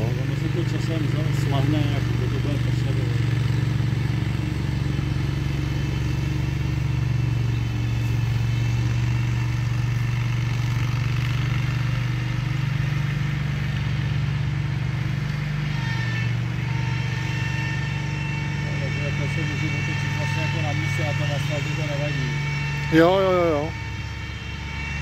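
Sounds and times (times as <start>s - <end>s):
mower engine running: 0.0s - 25.0s.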